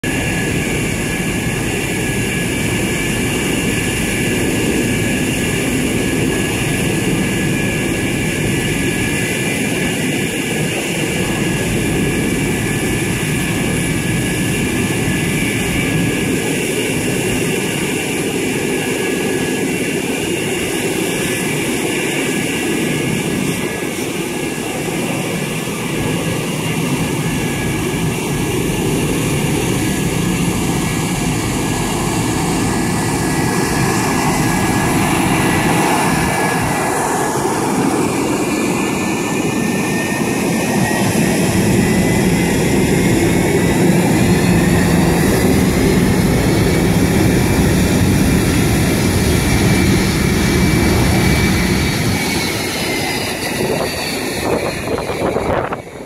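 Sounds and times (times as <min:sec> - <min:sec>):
jet engine rush with high whine: 0:00.0 - 0:56.0.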